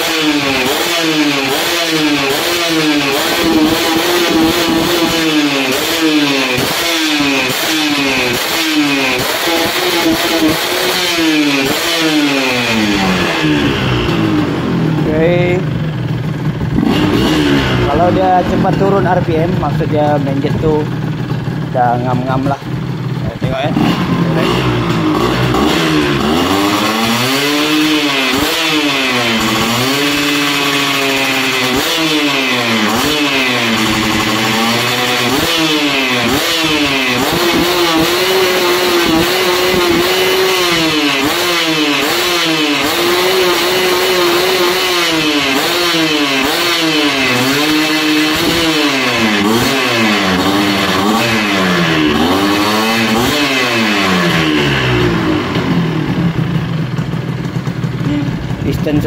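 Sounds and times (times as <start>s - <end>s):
engine idling: 0.0s - 59.0s
two-stroke engine revving: 0.0s - 59.0s.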